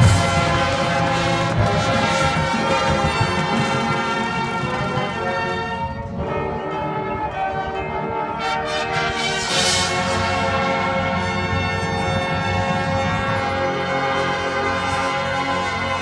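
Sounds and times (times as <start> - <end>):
marching band brass chords: 0.0 - 16.0.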